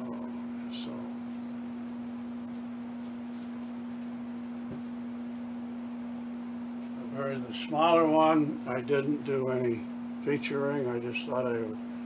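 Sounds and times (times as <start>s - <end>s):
steady single-pitch hum: 0.0s - 12.0s.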